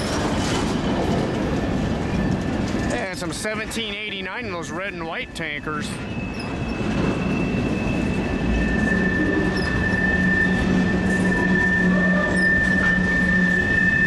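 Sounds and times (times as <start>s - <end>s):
freight train cars rolling: 0.0s - 14.0s
train wheels squealing: 0.0s - 14.0s.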